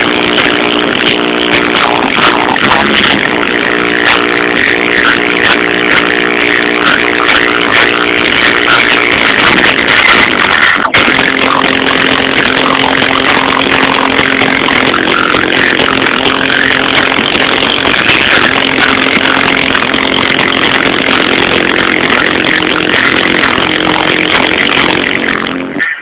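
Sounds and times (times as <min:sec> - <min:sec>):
distorted car subwoofer bass: 0:00.0 - 0:26.0.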